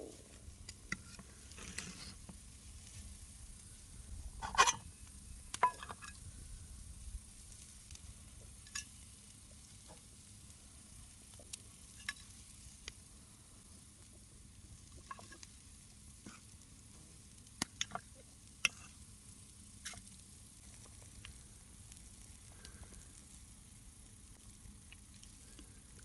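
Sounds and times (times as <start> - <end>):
campfire crackling and popping: 0.0 - 26.0
faint steady hiss: 0.0 - 26.0.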